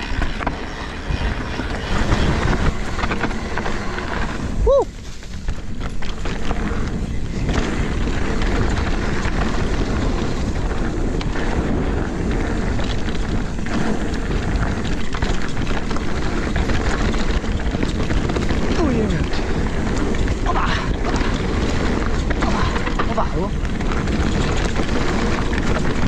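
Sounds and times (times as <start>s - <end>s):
bike rattles and knocks: 0.0s - 26.0s
bike rolling on rough trail: 0.0s - 26.0s.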